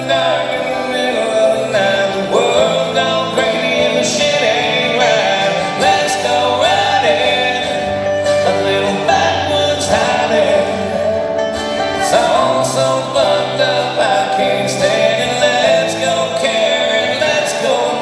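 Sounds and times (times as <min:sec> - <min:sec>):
acoustic guitars playing: 0:00.0 - 0:18.0
lap slide guitar: 0:00.0 - 0:18.0.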